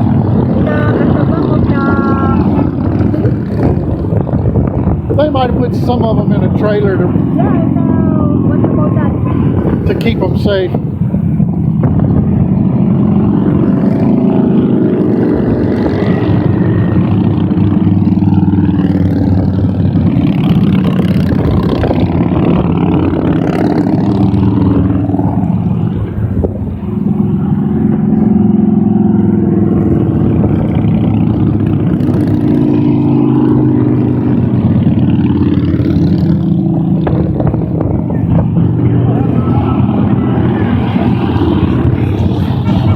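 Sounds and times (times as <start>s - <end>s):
motorcycles riding past: 0.0s - 42.9s.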